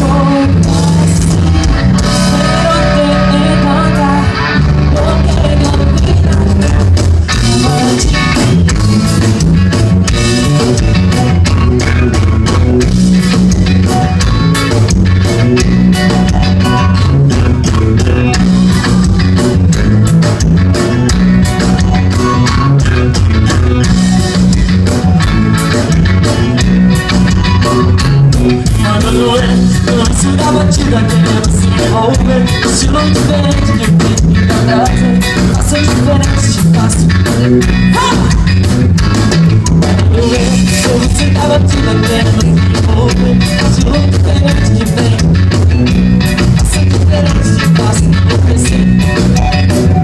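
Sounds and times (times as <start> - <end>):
live band playing loud: 0.0 - 50.0.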